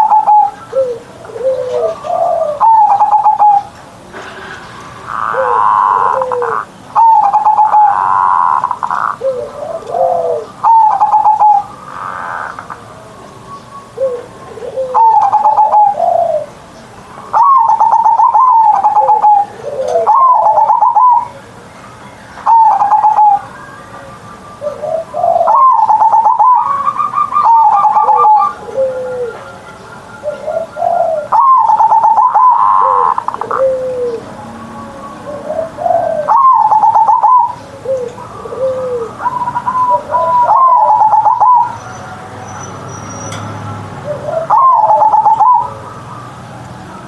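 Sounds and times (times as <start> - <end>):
dove cooing: 0.0 - 13.1, 14.0 - 16.6, 17.3 - 21.4, 22.4 - 23.6, 24.6 - 41.9, 44.0 - 46.3.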